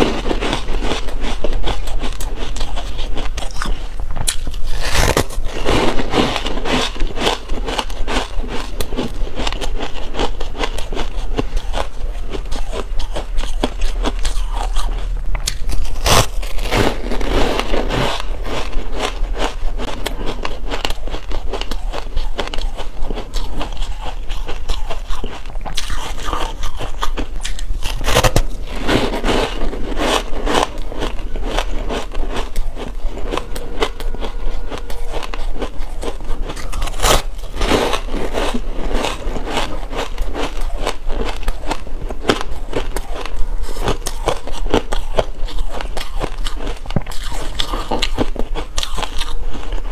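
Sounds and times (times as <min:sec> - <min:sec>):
ice being chewed: 0:00.0 - 0:49.9.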